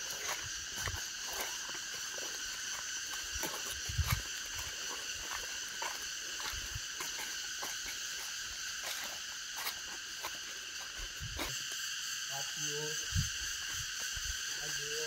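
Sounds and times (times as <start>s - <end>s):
forest insects buzzing: 0.0s - 15.0s.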